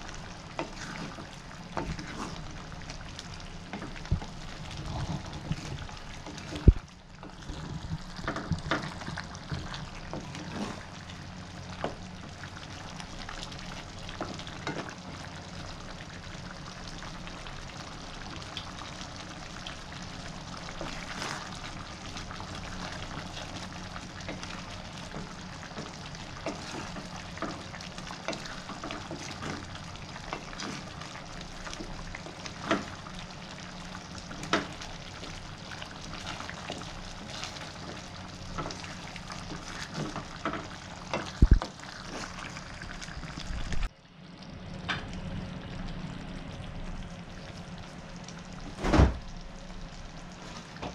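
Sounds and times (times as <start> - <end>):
stew simmering in a pan: 0.0 - 50.9.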